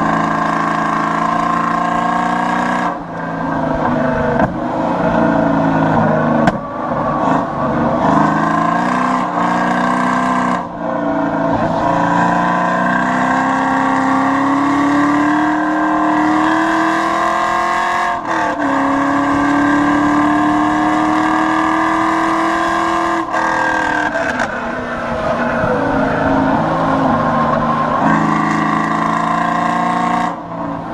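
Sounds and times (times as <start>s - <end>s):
car engine at full throttle: 0.0s - 30.9s.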